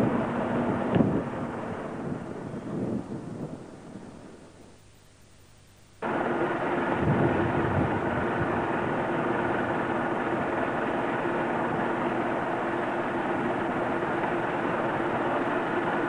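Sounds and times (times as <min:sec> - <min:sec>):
truck engine running: 0:00.0 - 0:04.4, 0:06.0 - 0:16.0.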